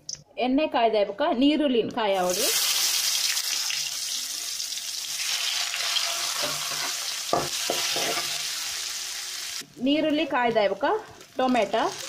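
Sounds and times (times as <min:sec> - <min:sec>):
onions sizzling in hot oil: 0:02.2 - 0:12.0.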